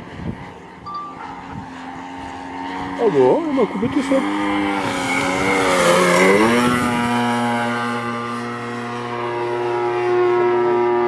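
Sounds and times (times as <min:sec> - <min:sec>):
model aeroplane engine running: 0:00.0 - 0:11.0.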